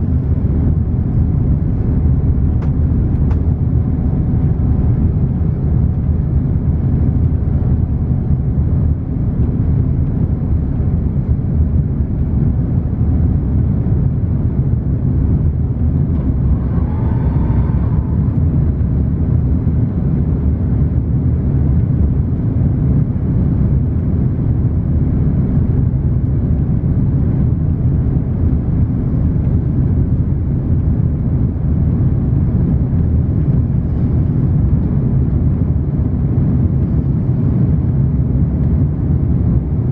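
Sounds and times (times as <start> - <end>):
aircraft engines rumbling in cabin: 0.0 - 39.9.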